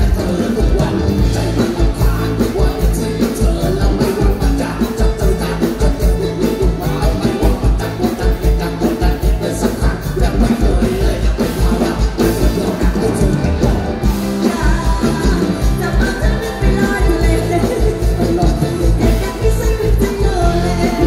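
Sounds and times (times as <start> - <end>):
live band playing upbeat music: 0.0 - 21.0.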